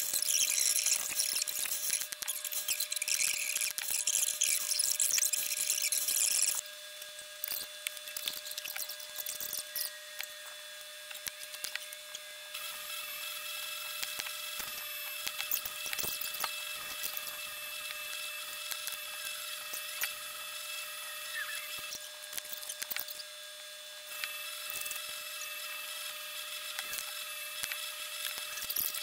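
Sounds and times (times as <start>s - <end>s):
high-pitched machine whine: 0.0s - 29.0s.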